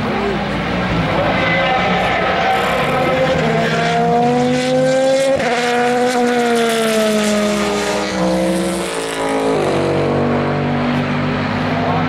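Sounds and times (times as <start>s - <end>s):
race car engine passing: 0.0s - 12.0s.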